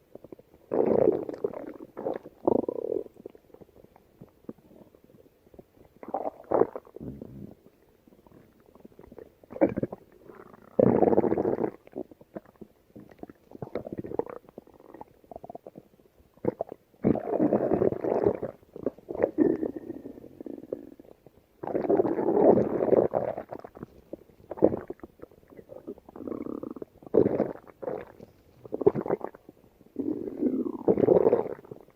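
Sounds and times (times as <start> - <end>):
stomach growling and gurgling: 0.0 - 31.9.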